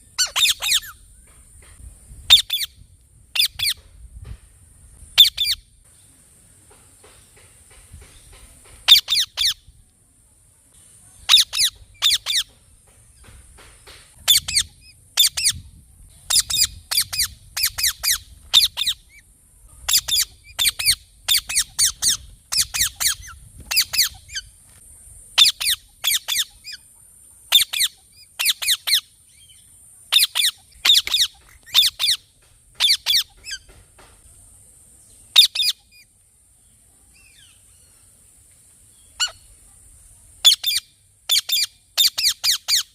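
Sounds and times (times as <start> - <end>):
faint high hiss: 0.0 - 42.1.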